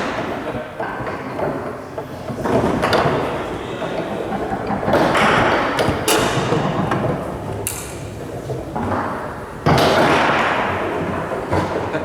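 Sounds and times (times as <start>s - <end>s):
foosball table clatter: 0.0s - 11.9s.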